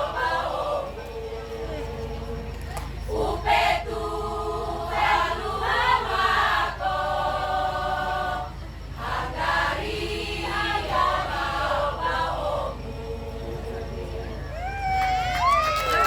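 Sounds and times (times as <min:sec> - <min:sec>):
choir singing: 0:00.0 - 0:14.8.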